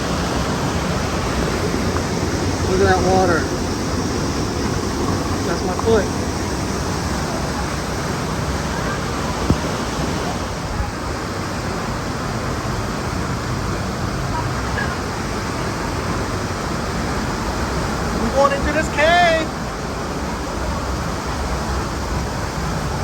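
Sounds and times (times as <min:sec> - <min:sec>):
waterfall and river rushing: 0:00.0 - 0:23.0.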